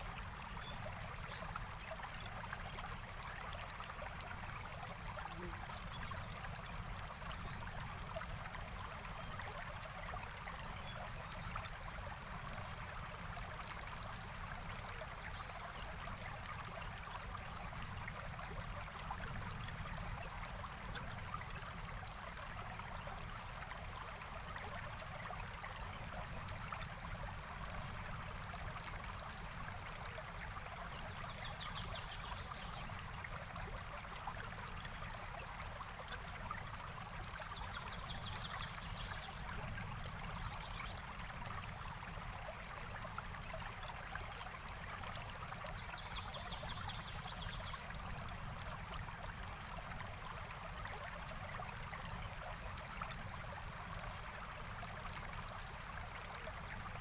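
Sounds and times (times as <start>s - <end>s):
forest stream flowing: 0.0s - 57.0s.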